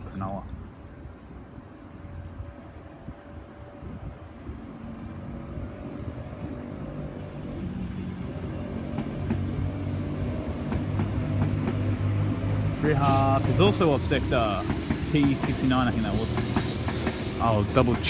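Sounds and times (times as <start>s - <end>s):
electric train motors humming: 0.5s - 18.0s.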